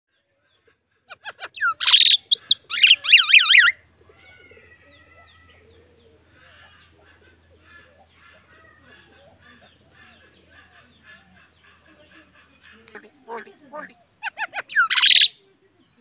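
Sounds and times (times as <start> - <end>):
faint bird chatter: 0.1 - 16.0
myna calling: 1.1 - 15.5.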